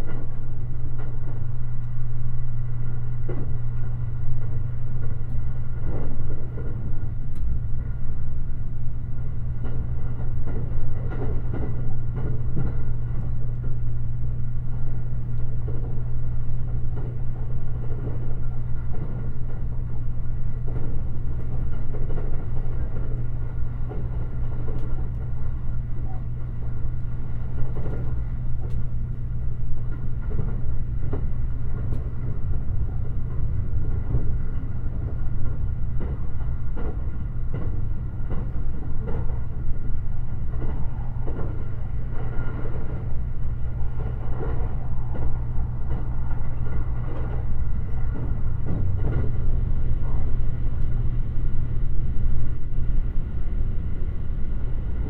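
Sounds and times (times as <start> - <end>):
constant low hum: 0.0 - 55.0
train wheels rumbling on rail: 0.0 - 55.0.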